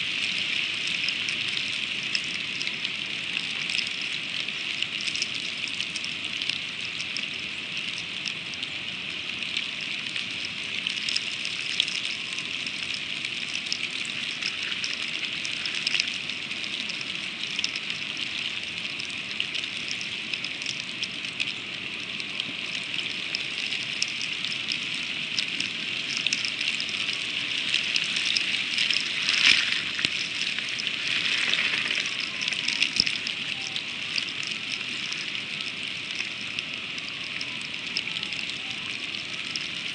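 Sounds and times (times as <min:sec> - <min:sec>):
freezing rain pattering: 0:00.0 - 0:39.9.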